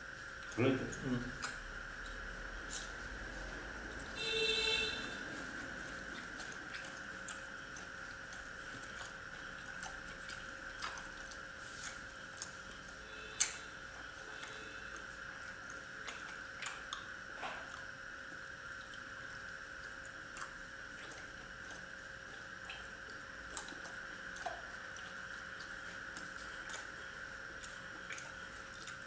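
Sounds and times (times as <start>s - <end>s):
faint steady hum: 0.0s - 29.0s
chewing: 5.2s - 29.0s.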